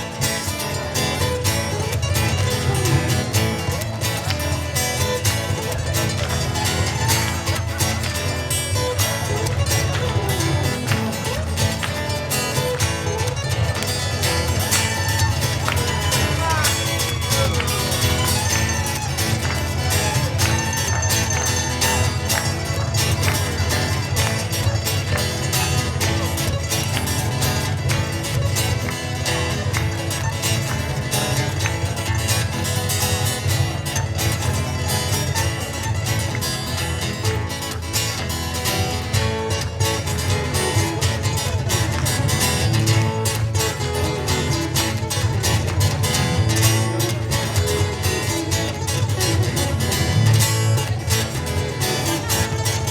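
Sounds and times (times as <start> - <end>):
ukulele picking and strumming: 0.0 - 52.9.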